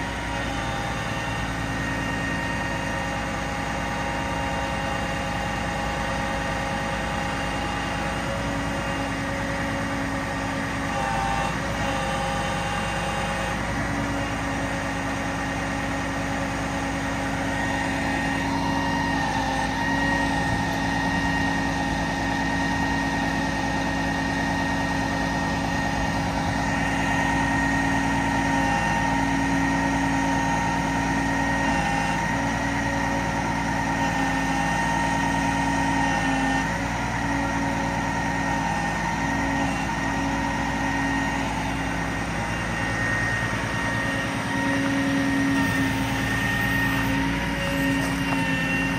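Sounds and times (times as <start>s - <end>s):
diesel engine idling: 0.0s - 48.9s
hydraulic whine: 0.0s - 48.9s.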